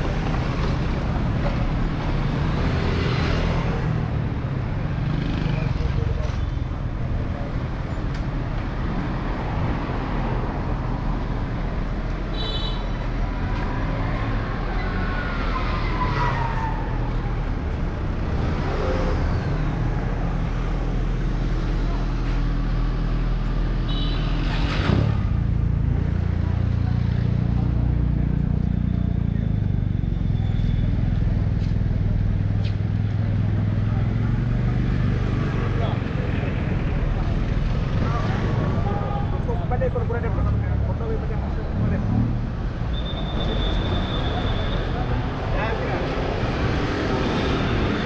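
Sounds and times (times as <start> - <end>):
car and van engines passing: 0.0 - 12.1, 13.2 - 48.0.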